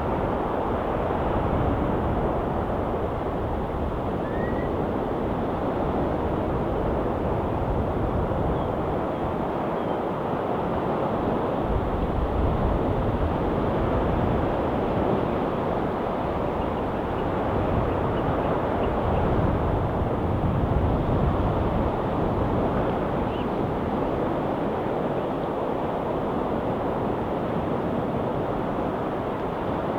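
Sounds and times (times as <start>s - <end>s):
wind rumble on microphone: 0.0s - 29.9s.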